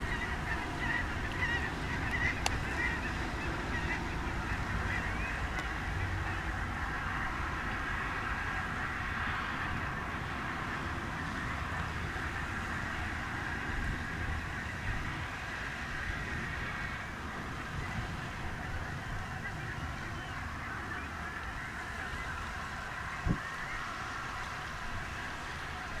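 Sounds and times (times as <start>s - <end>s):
waterfowl honking: 0.0s - 26.0s.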